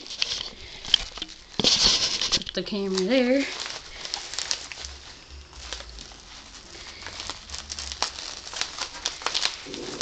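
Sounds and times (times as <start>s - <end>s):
plastic and bubble wrap crinkling: 0.0s - 10.0s.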